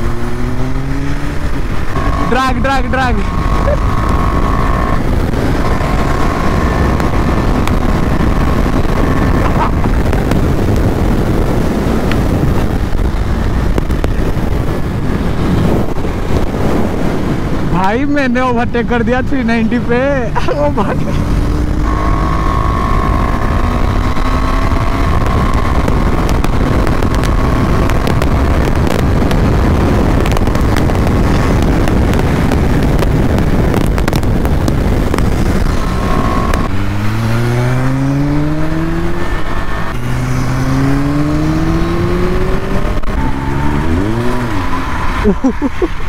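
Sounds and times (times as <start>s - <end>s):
motorcycle engine accelerating: 0.0s - 46.0s
wind rush on microphone: 0.0s - 46.0s.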